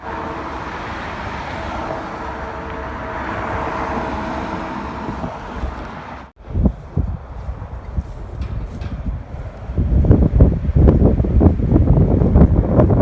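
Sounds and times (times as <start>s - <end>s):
vehicle running noise: 0.0s - 13.0s.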